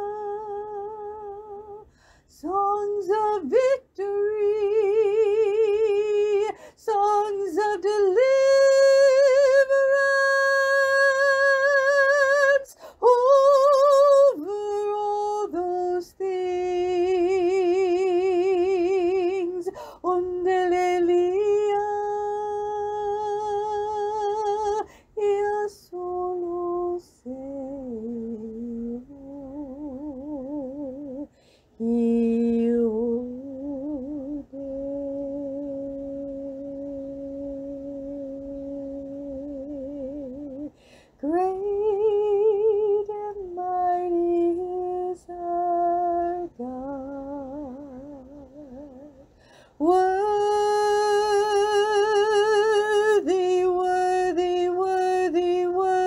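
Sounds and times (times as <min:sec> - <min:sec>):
woman singing unaccompanied: 0:00.0 - 0:56.0.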